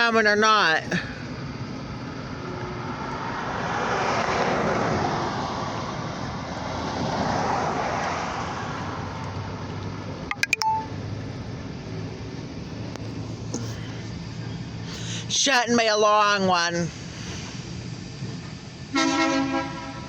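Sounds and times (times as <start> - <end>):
road vehicles passing: 0.0 - 20.0.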